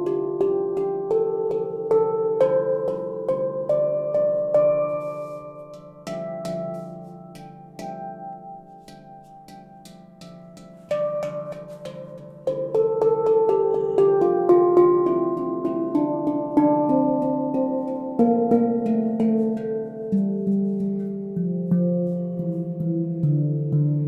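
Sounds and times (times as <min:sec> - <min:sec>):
handpan arpeggios: 0:00.0 - 0:24.0.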